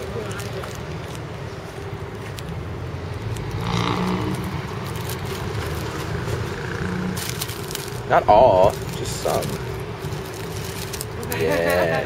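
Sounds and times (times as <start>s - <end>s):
road traffic hum: 0.0s - 12.0s
vehicle passing: 0.0s - 12.0s.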